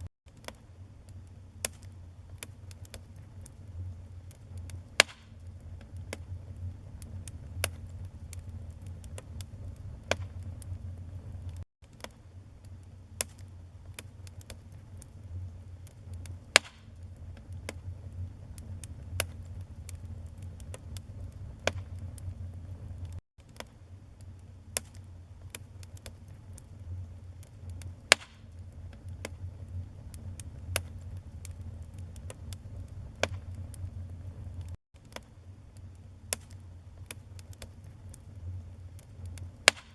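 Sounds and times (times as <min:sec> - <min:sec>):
wood fire crackling and popping: 0:00.3 - 0:39.9.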